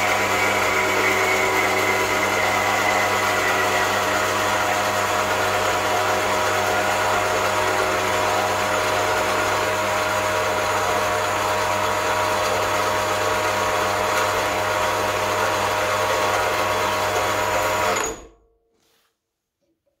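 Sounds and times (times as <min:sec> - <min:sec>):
bandsaw running: 0:00.0 - 0:18.2.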